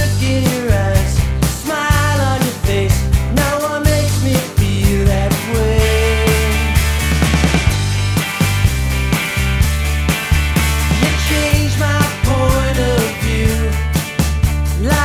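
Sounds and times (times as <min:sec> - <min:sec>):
rock song: 0:00.0 - 0:15.0.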